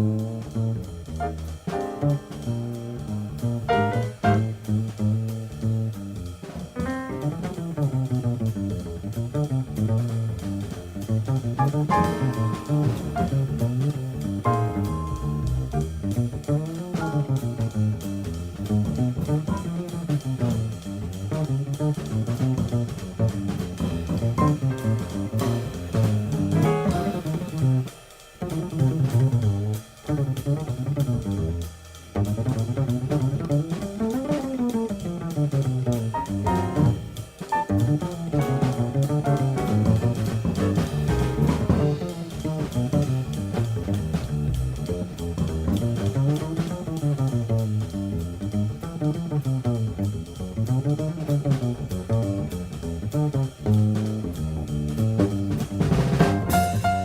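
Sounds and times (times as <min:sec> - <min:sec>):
jazz guitar melody: 0:00.0 - 0:31.6, 0:32.2 - 0:57.0
bass and drums: 0:00.0 - 0:57.0.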